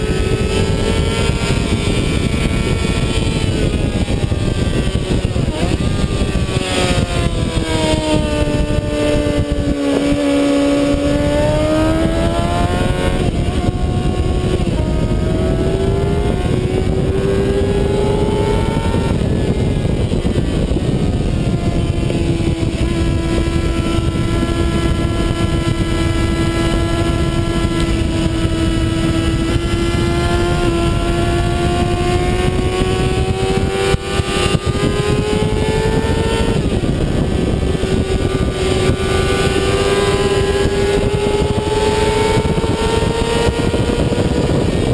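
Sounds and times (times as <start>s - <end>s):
motorcycle engine: 0.0s - 44.9s
wind rush: 0.0s - 44.9s.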